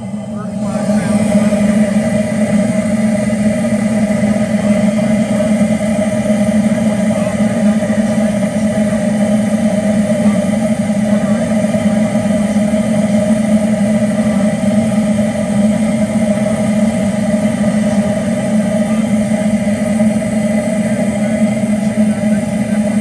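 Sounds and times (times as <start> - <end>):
low hum: 0.0 - 23.0
oil burner rushing: 0.0 - 23.0.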